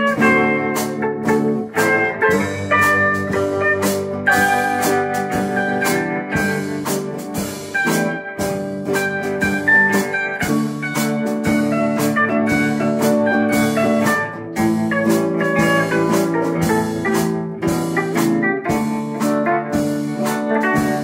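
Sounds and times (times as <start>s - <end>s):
drum kit steady beat: 0.0s - 21.0s
electric guitars: 0.0s - 21.0s.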